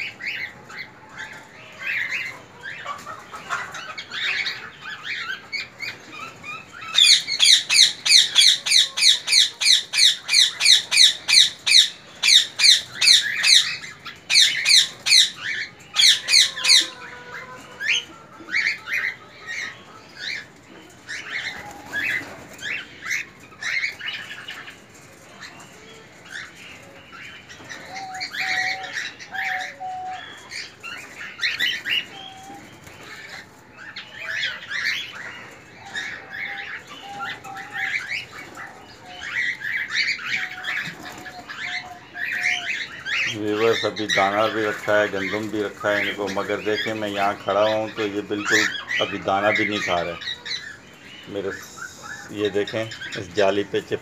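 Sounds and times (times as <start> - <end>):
cockatiels calling and chirping: 0.0 - 54.0.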